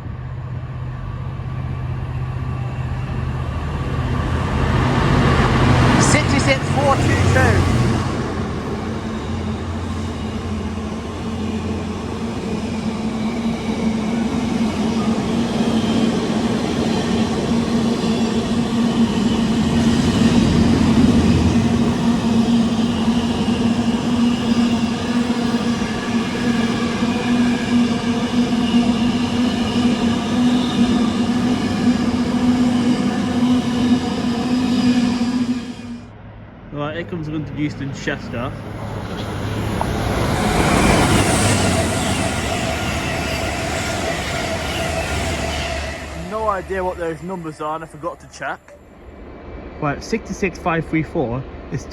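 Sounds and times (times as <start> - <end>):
diesel freight train droning: 0.0 - 51.9.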